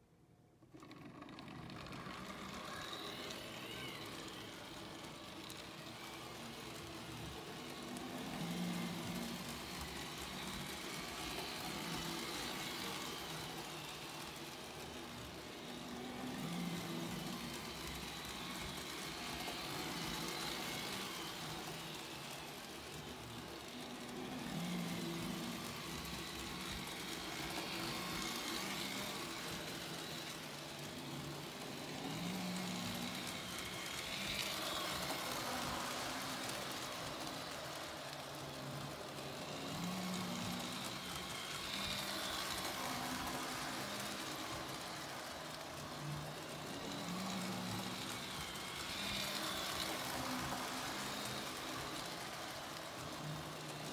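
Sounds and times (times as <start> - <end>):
toy train wheels clattering: 0.6 - 53.9.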